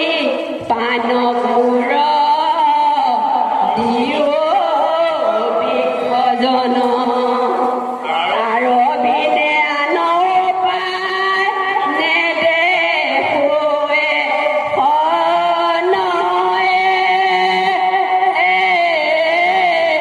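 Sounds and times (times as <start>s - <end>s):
person singing through microphone: 0.0s - 20.0s.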